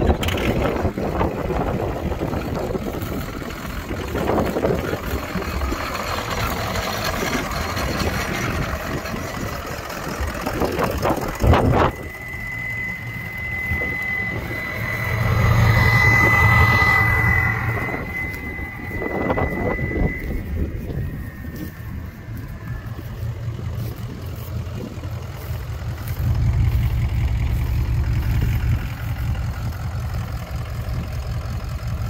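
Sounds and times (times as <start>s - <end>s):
engine knock: 0.0s - 19.9s, 20.6s - 32.0s
high whine: 0.0s - 32.0s
pickup engine idling: 0.0s - 32.0s.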